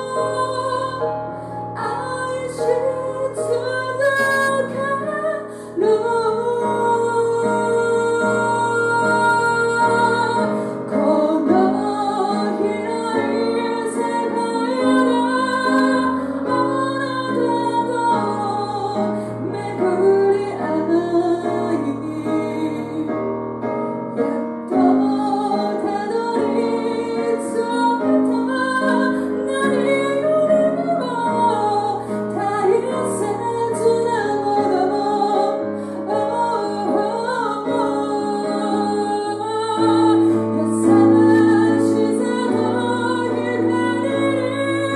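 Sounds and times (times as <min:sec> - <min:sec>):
woman singing a slow ballad: 0:00.0 - 0:44.9.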